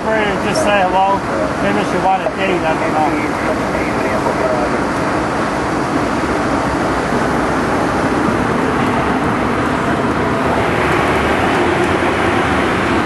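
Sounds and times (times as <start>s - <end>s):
airflow rush in jet cabin: 0.0s - 13.0s
jet engine noise: 0.0s - 13.0s.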